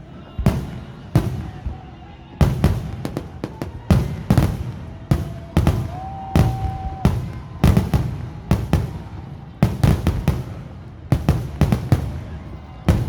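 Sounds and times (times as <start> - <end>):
fireworks bangs: 0.3 - 13.0.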